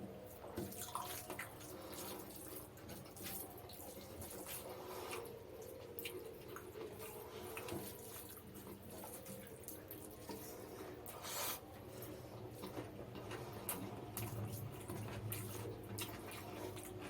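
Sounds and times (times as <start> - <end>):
wet chewing and lip-smacking: 0.4 - 17.0.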